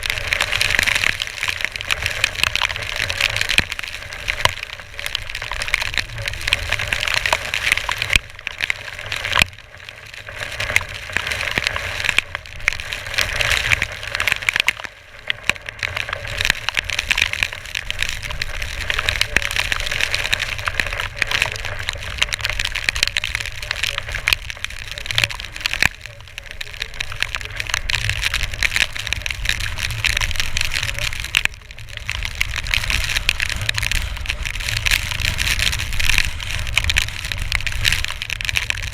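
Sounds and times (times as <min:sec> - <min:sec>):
crackling: 0:00.0 - 0:38.9.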